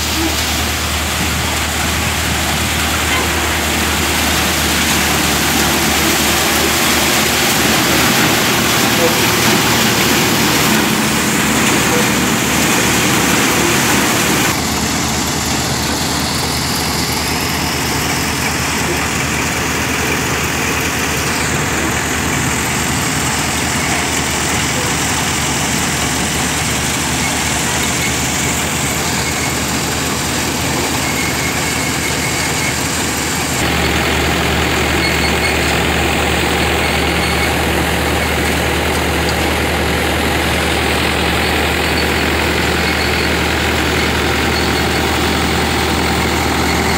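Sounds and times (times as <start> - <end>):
thresher drum and fans droning: 0.0 - 46.9
tractor engine running: 0.0 - 46.9.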